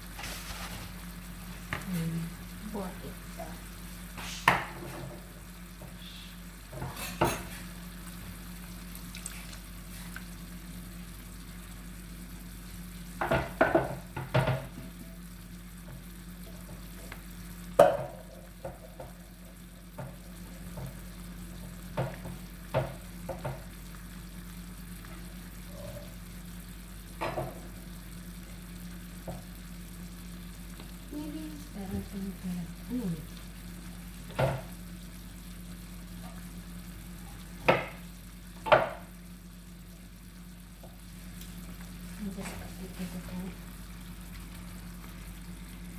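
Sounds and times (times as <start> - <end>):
chicken sizzling in oil: 0.0 - 45.9.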